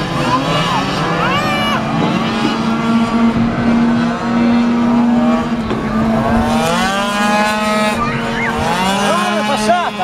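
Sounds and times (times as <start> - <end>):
two-stroke scooter engines racing: 0.0 - 10.0.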